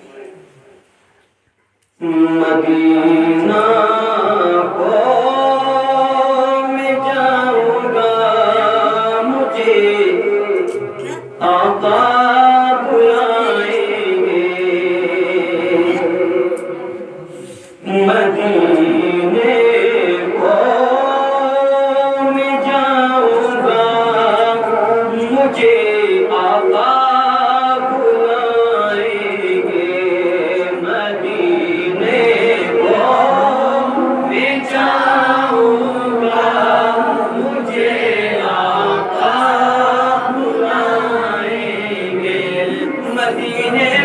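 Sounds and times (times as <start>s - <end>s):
man singing unaccompanied: 2.0s - 17.0s, 17.8s - 44.0s.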